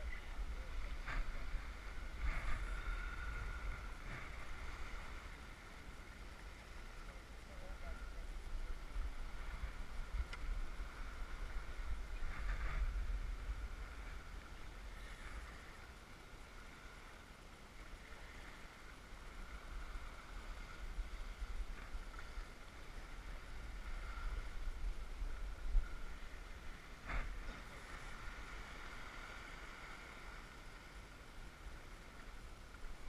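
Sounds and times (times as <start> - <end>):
wind rumbling on microphone: 0.0 - 17.2, 17.8 - 33.0
water washing along hull: 0.0 - 33.0.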